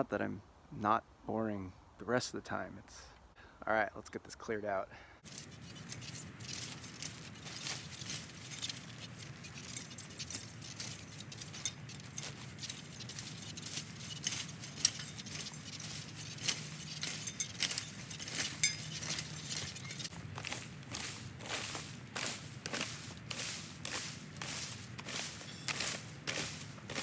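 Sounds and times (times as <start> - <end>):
dry plants crackling and rustling: 5.2 - 27.0.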